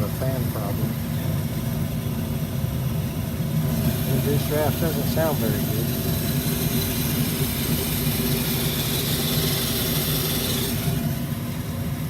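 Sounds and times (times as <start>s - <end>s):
furnace motor humming: 0.0s - 12.0s.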